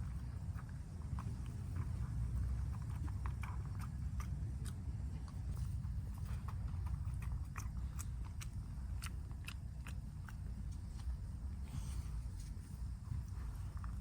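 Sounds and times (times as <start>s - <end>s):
dog chewing wetly: 0.0s - 12.2s
steady low rumble: 0.0s - 14.0s.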